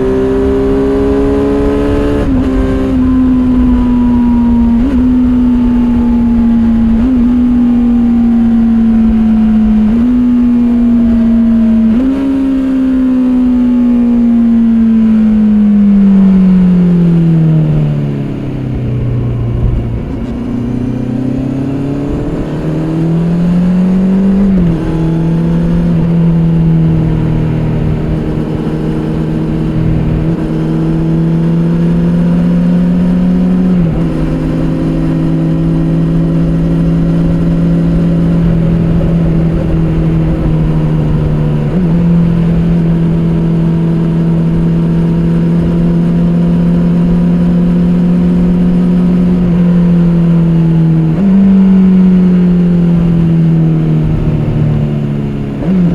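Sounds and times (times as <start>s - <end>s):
motorcycle engine while riding: 0.0s - 55.9s.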